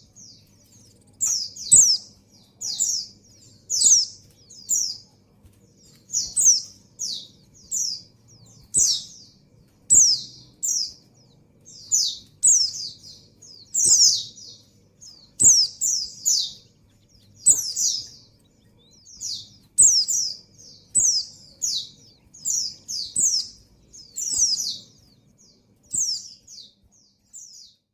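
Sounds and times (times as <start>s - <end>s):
bird high chirps: 0.0s - 27.9s.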